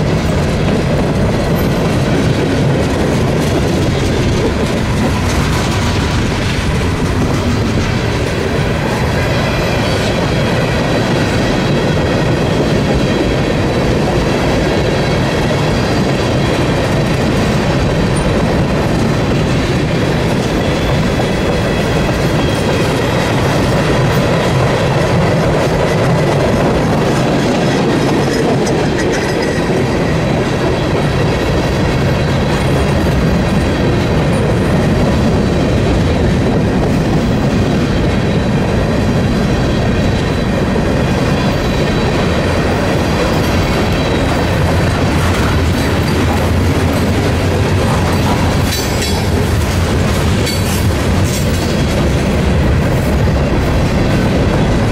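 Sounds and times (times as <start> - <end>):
clickety-clack over rail joints: 0.0 - 54.9
train wheels rumbling on rail: 0.0 - 54.9.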